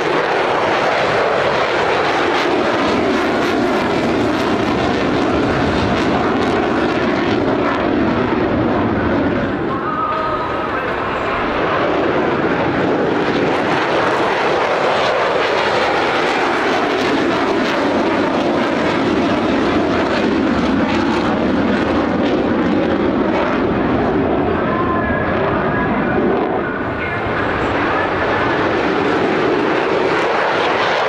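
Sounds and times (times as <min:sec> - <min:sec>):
fighter jets roaring overhead: 0:00.0 - 0:31.0.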